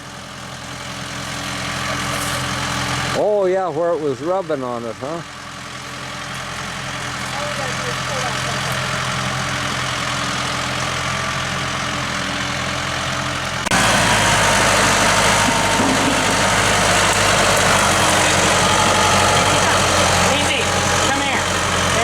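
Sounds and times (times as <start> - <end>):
heavy engine idling and revving: 0.0 - 22.0.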